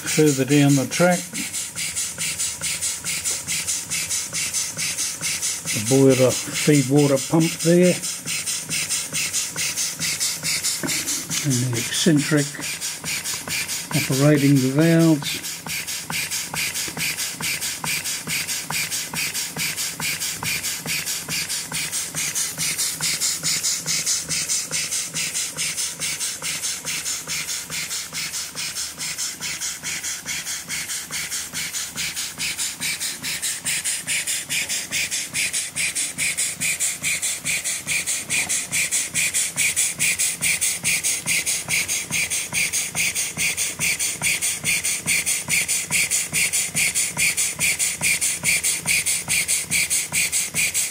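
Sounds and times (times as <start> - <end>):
model steam engine chuffing: 0.0 - 50.9.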